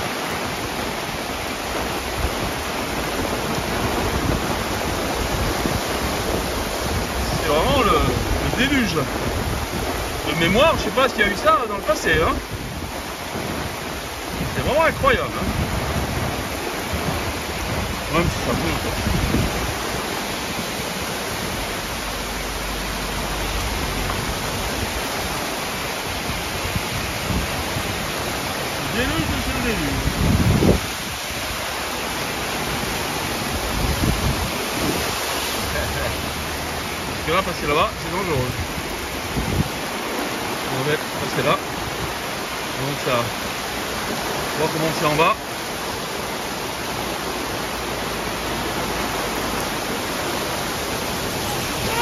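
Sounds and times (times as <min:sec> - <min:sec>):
floodwater rushing: 0:00.0 - 0:52.0
torrential rain pouring: 0:00.0 - 0:52.0.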